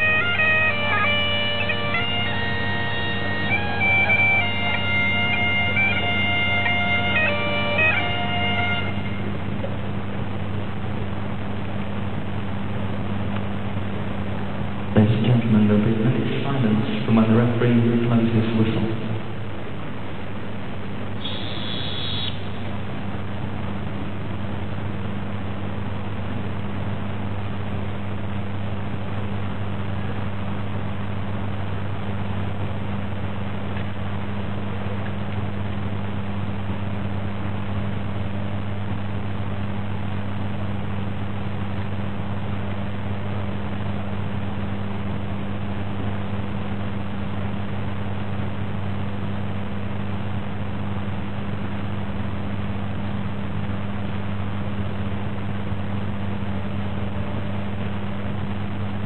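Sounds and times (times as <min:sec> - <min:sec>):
constant hiss: 0:00.0 - 0:59.0
steady low hum: 0:00.0 - 0:59.0.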